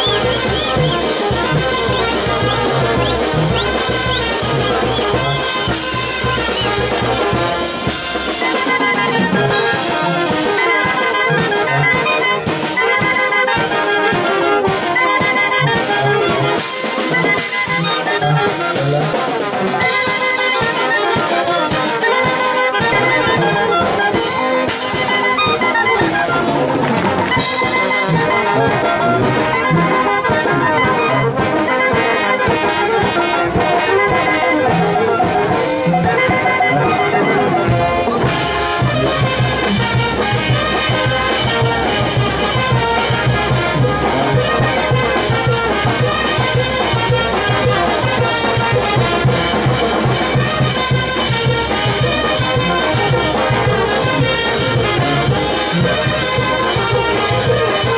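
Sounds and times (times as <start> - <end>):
clarinets and saxophone dance tune: 0.0 - 57.9.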